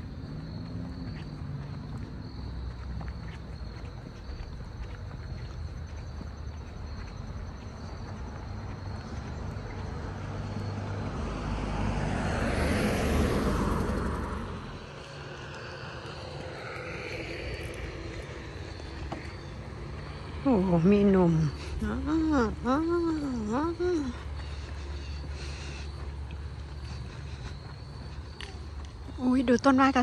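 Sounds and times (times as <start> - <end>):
vehicle passing by: 0.0 - 3.6, 7.4 - 30.0
low outdoor rumble: 0.0 - 30.0.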